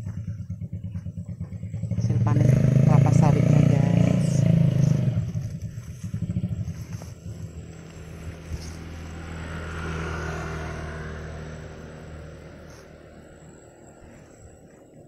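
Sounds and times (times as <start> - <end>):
motor vehicle engine passing by: 0.0 - 15.0.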